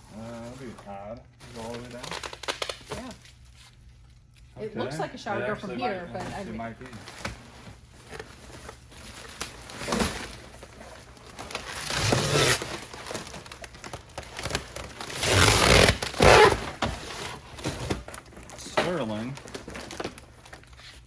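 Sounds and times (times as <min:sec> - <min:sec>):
packaging rustling and tearing: 0:00.1 - 0:04.4, 0:06.4 - 0:21.0.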